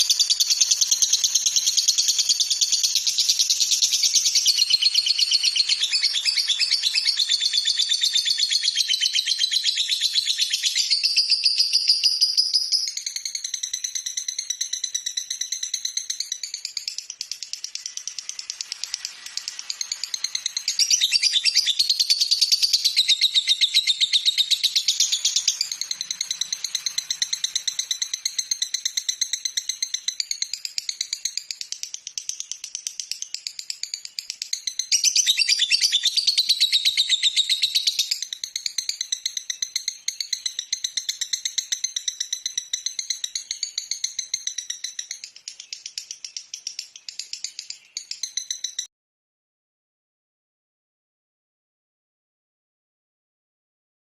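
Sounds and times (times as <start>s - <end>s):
lovebird chattering: 0.0s - 48.9s.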